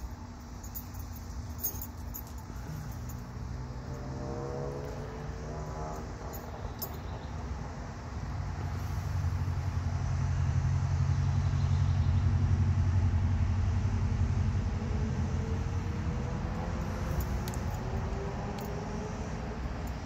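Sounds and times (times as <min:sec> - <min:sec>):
vehicle engine passing slowly: 0:00.0 - 0:20.0.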